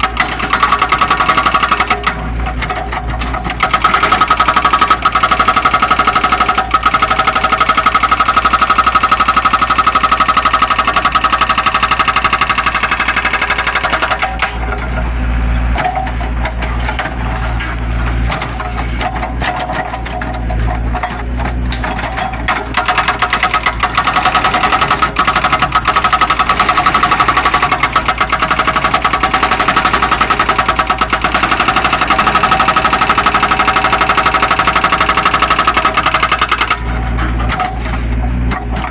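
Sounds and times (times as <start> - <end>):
excavator diesel engine clatter: 0.0 - 38.9.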